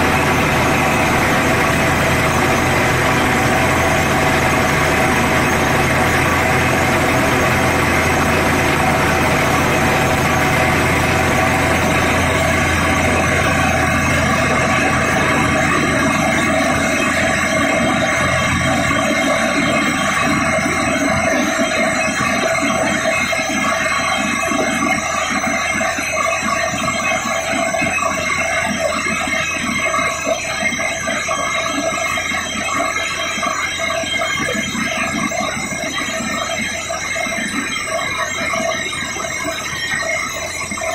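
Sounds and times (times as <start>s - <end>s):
drilling rig engine hum: 0.0s - 40.9s.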